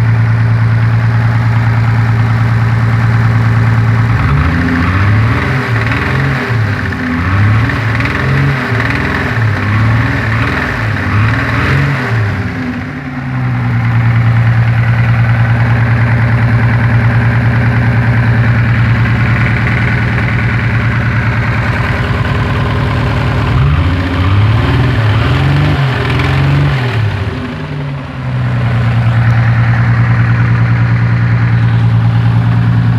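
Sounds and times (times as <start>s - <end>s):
car engine idling and revving: 0.0s - 32.9s
engine knocking noise: 0.0s - 32.9s.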